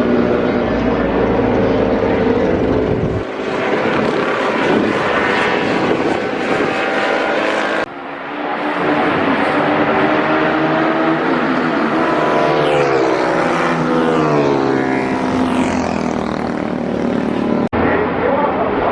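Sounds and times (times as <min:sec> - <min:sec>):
motorcycle engines running: 0:00.0 - 0:17.7.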